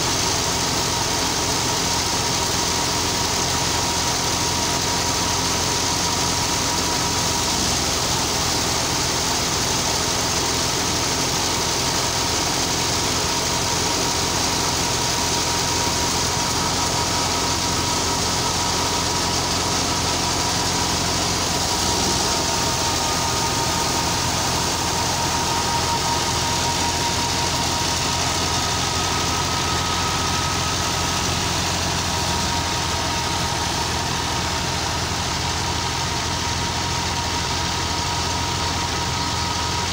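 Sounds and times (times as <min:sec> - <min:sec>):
steady high whine: 0:00.0 - 0:39.9
thresher drum whirring: 0:00.0 - 0:39.9
tractor diesel engine running: 0:00.0 - 0:39.9.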